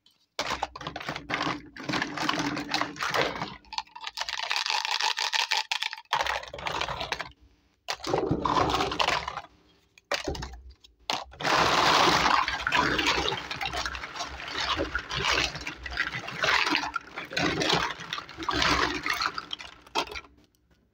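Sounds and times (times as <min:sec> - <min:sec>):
plastic toy kitchenware clattering: 0:00.4 - 0:09.5, 0:10.1 - 0:20.3.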